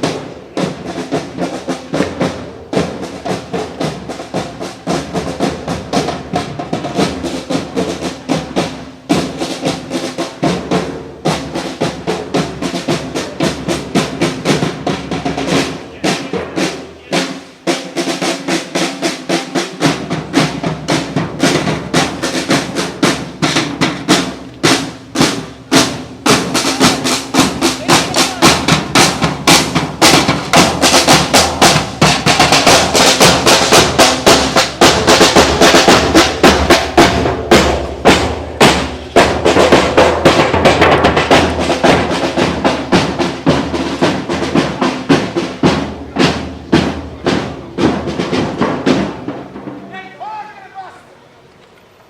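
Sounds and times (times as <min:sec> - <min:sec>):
snare drum march beat: 0:00.0 - 0:51.0.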